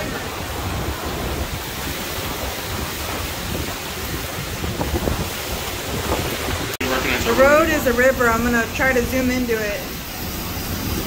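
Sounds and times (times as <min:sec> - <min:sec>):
driving rain: 0:00.0 - 0:11.0
strong wind: 0:00.0 - 0:11.0.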